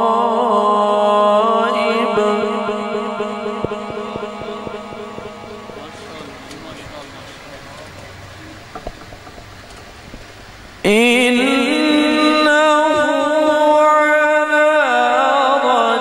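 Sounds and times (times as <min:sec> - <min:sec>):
man reciting melodically: 0:00.0 - 0:08.7, 0:10.8 - 0:16.0.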